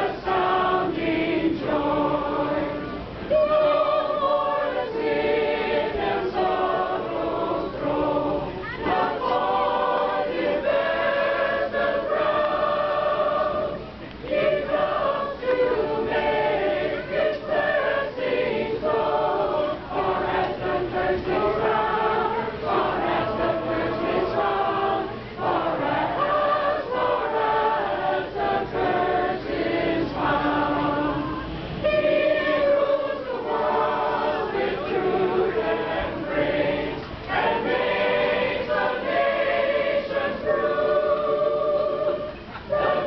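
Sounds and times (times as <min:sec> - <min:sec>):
group singing a carol: 0:00.0 - 0:43.0.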